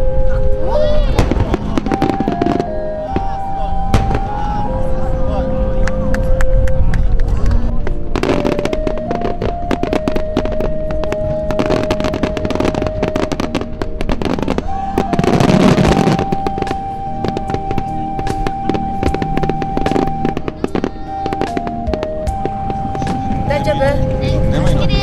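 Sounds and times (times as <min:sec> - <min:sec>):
music with long held notes: 0:00.0 - 0:25.0
fireworks bursting and crackling: 0:01.0 - 0:04.8, 0:07.8 - 0:25.0.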